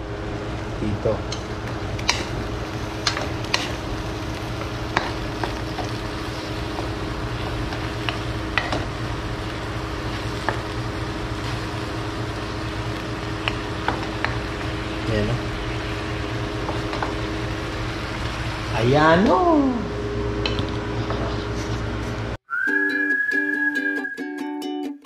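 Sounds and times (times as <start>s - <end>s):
low hum: 0.0s - 22.4s
sauce sizzling: 0.0s - 23.9s.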